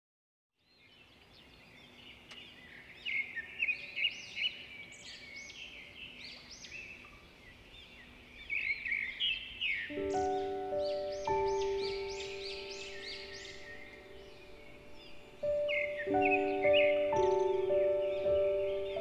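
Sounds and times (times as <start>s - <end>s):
birds chirping and singing: 0.6s - 19.0s.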